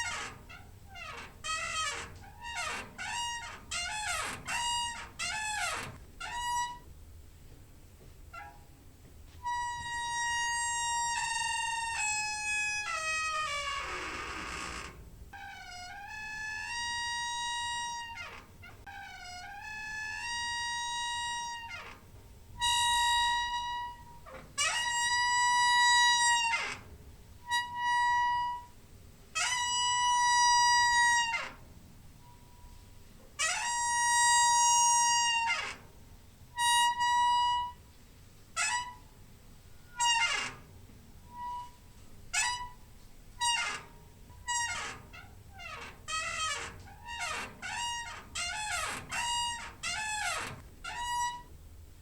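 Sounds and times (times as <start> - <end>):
door hinge squeaking: 0.0 - 6.9, 8.3 - 8.8, 9.4 - 28.8, 29.4 - 31.6, 33.4 - 35.9, 36.6 - 37.8, 38.5 - 51.6.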